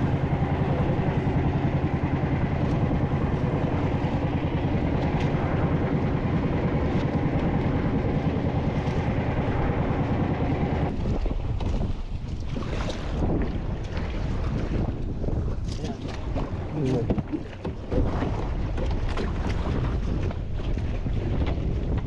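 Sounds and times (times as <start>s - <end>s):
boat engine throbbing: 0.0s - 22.0s.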